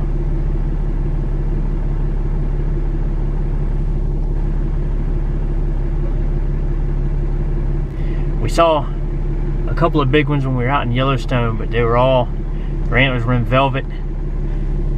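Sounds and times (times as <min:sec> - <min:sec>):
vehicle engine idling: 0:00.0 - 0:14.9.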